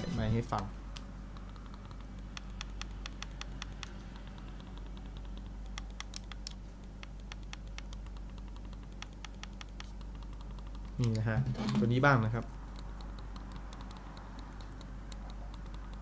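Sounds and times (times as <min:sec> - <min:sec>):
low steady hum: 0:00.0 - 0:16.0
muted mouse clicks: 0:00.5 - 0:11.3, 0:12.7 - 0:16.0.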